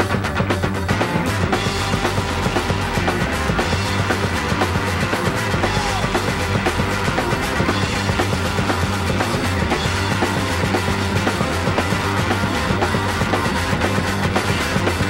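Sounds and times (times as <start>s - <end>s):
bass guitar: 0.0s - 15.0s
drum kit beating driving rhythm: 0.0s - 15.0s
electric guitar: 0.0s - 15.0s.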